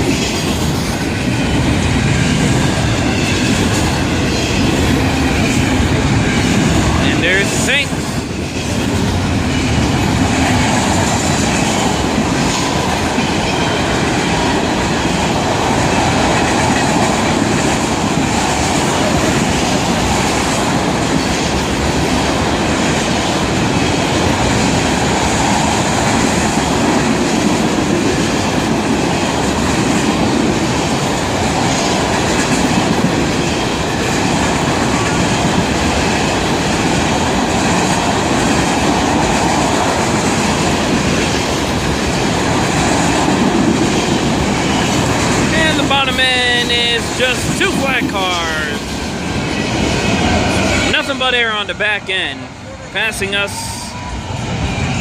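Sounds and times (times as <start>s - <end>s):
clickety-clack over rail joints: 0.0s - 48.1s
train wheels rumbling on rail: 0.0s - 55.0s.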